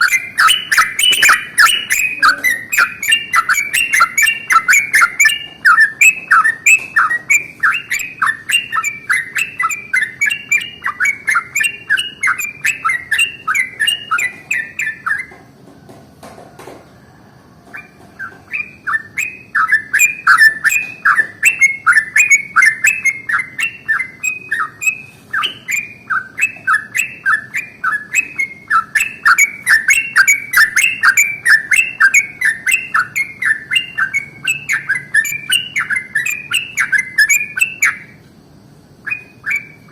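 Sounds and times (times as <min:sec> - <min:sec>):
bird singing rolling chatter: 0:00.0 - 0:39.9.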